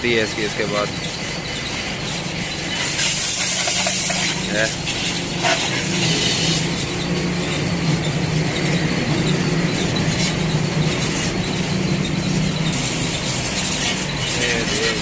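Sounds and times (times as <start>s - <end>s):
pressure washer motor hum: 0.0s - 15.0s
hissing water jet: 0.4s - 8.2s, 9.3s - 15.0s.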